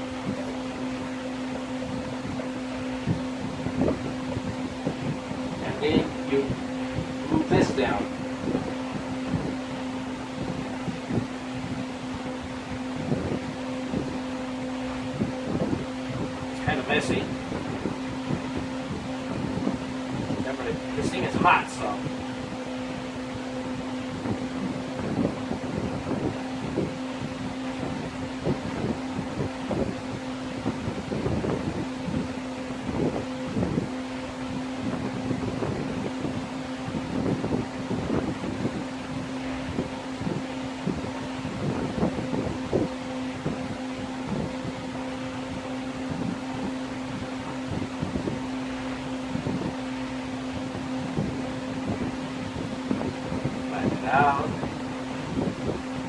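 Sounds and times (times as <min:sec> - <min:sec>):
heat gun humming and blowing air: 0:00.0 - 0:56.0.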